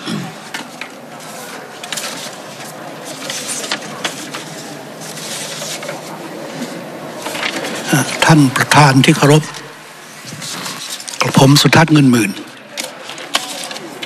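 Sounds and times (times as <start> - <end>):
faint indistinct voices: 0.0 - 14.0.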